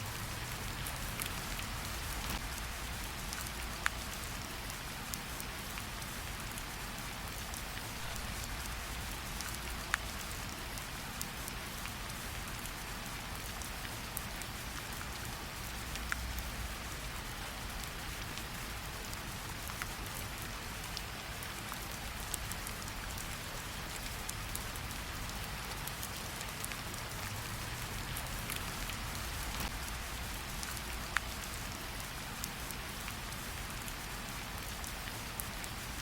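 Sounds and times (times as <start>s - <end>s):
rain falling on leaves: 0.0s - 36.0s.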